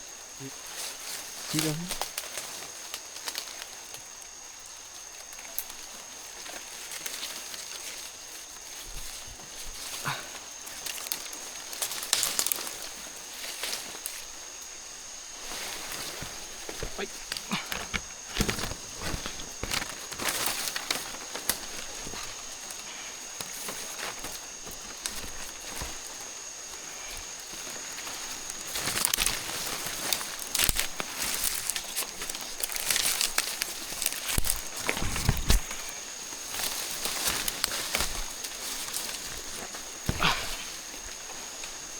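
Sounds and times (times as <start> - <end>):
rustling and snapping undergrowth: 0.2 - 41.9
footsteps in undergrowth: 5.0 - 41.9.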